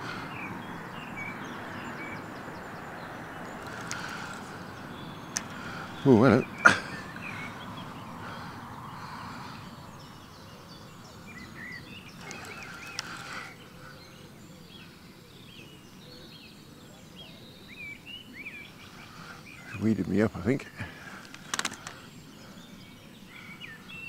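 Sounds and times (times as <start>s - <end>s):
outdoor background hiss: 0.0s - 24.0s
small birds singing and chirping: 0.0s - 24.0s.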